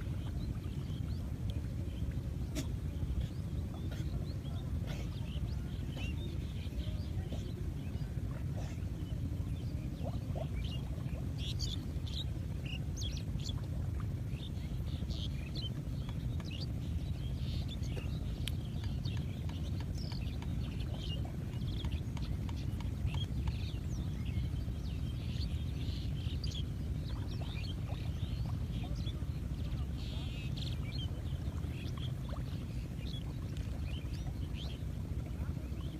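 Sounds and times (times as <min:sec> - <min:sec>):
small birds chirping: 0:00.0 - 0:35.9
steady low rumble: 0:00.0 - 0:35.9.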